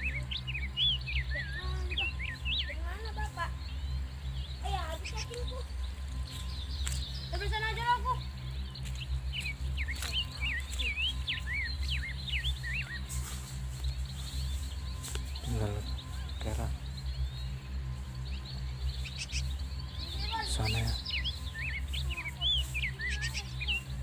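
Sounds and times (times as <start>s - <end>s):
short pitched calls: 0.0s - 24.0s
small birds chirping: 0.0s - 24.0s
steady low hum: 0.0s - 24.0s.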